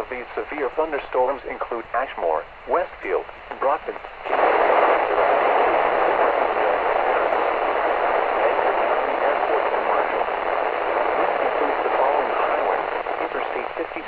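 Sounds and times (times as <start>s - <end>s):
broadcast voice: 0.0s - 14.0s
radio static hiss: 0.0s - 14.0s.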